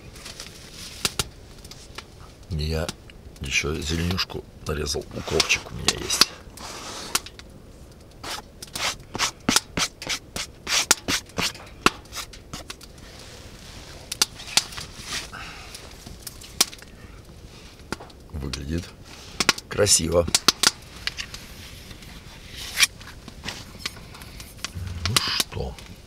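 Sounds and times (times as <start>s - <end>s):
hands rustling food and utensils: 5.0s - 26.0s.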